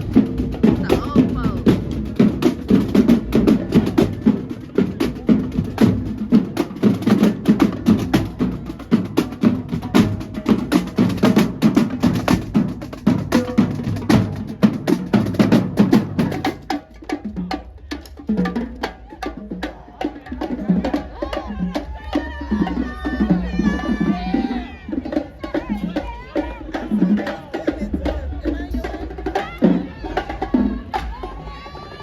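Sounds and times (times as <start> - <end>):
drum-heavy percussion music: 0.0 - 32.0.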